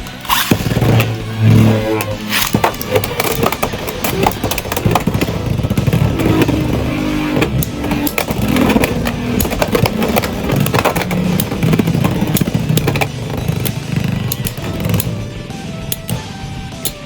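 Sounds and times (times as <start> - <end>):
spinning tops colliding clicks: 0.0 - 17.0
spinning tops whirring: 0.0 - 17.0.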